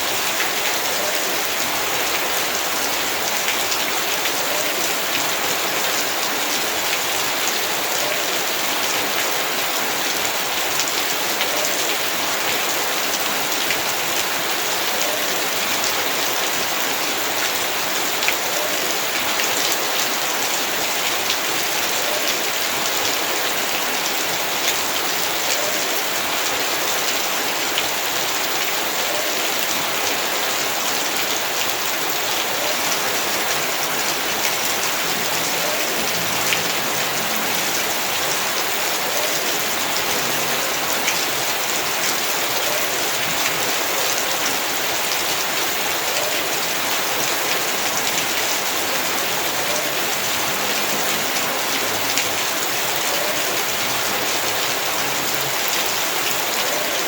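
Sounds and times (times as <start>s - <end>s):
heavy rain falling: 0.0s - 57.0s
raindrops ticking on surfaces: 0.0s - 57.0s.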